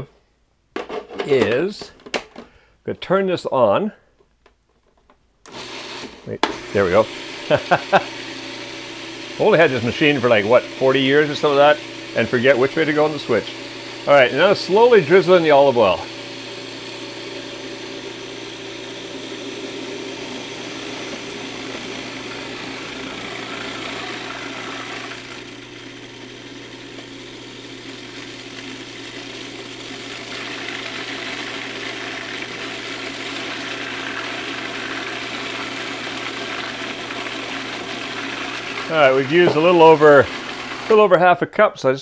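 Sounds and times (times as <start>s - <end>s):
food processor motor humming: 5.5s - 41.1s.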